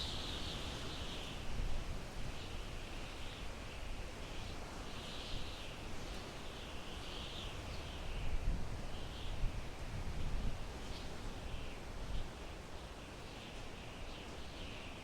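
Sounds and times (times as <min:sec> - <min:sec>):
wind rushing through pine trees: 0:00.0 - 0:15.0.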